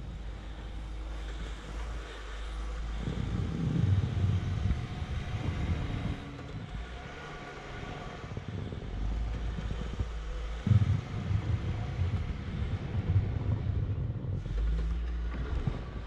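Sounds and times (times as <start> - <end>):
van engine pulling: 0.0 - 16.0.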